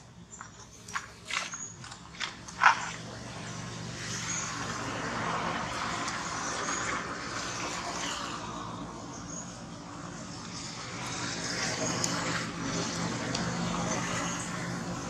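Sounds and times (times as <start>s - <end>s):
motor vehicle passing by: 0.7s - 15.0s.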